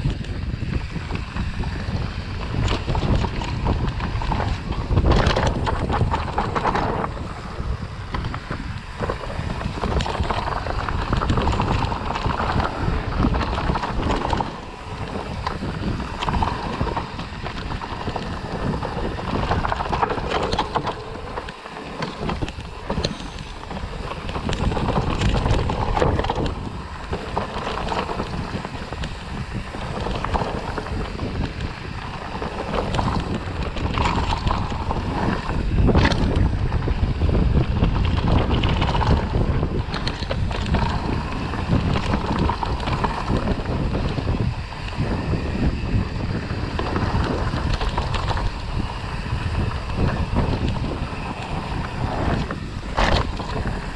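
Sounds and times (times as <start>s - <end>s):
bike knocks and rattles: 0.0s - 53.9s
tyres rumbling on dirt: 0.0s - 53.9s
wind buffeting microphone: 0.0s - 53.9s.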